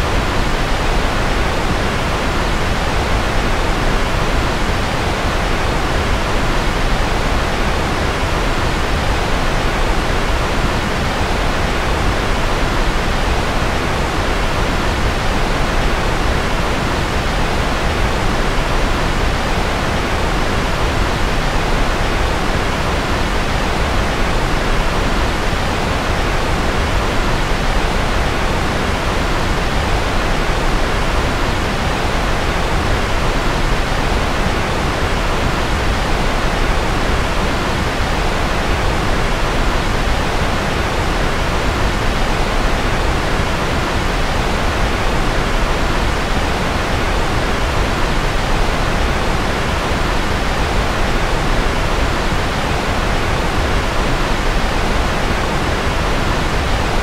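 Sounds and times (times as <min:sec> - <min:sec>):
electronic white noise hiss: 0:00.0 - 0:57.0.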